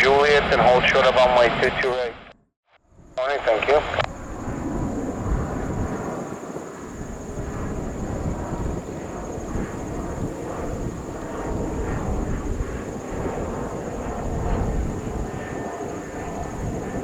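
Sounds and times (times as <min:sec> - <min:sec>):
distant jet engines rumbling: 0:00.0 - 0:02.4, 0:03.0 - 0:17.0.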